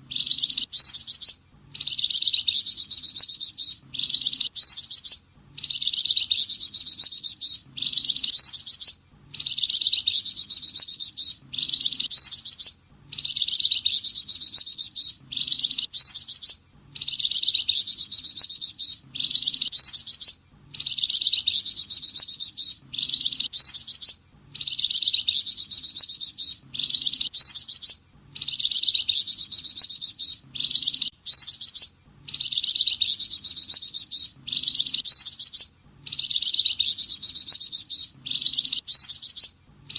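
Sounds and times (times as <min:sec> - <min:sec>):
songbird trilling: 0:00.1 - 0:39.9.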